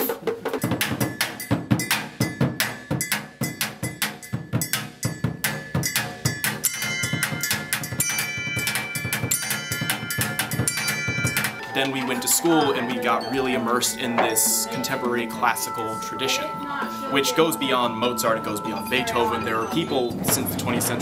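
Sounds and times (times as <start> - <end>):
drum strokes: 0.0 - 21.0
ringing metallic pitched tones: 0.6 - 21.0.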